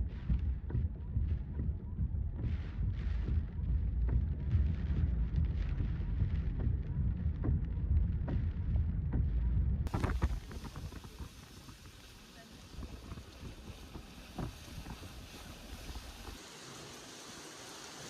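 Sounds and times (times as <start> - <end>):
heavy rain: 0.0 - 9.0, 9.8 - 18.0
wind buffeting microphone: 0.0 - 16.4.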